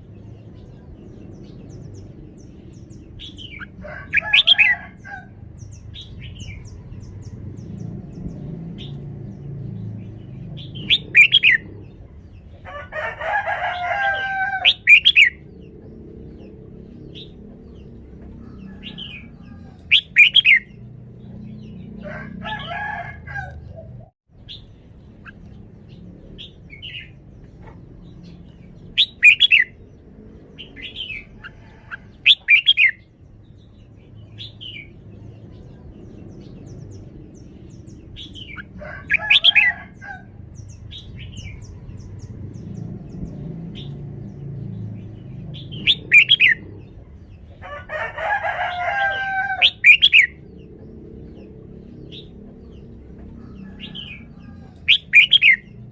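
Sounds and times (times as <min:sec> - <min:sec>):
bird singing warbling phrases: 0:00.0 - 0:12.6, 0:13.6 - 0:47.6, 0:49.0 - 0:55.9.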